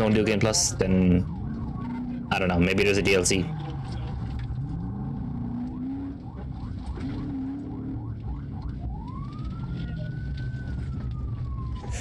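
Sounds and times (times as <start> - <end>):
car engine and road noise: 0.0 - 12.0
police siren yelping and wailing: 0.0 - 12.0.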